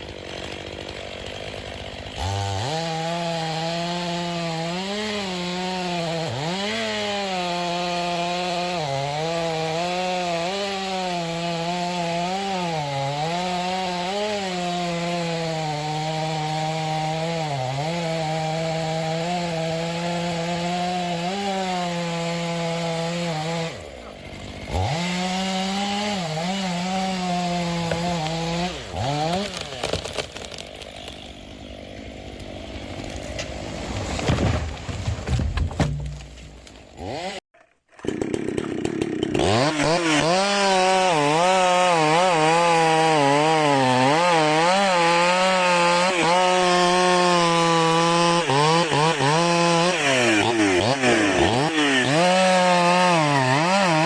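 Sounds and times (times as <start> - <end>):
chainsaw cutting into tree trunk: 0.0 - 54.0.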